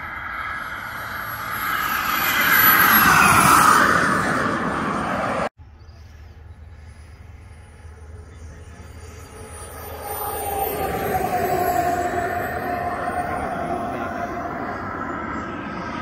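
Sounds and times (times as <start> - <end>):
model jet turbine whine: 0.0 - 5.5, 6.1 - 16.0.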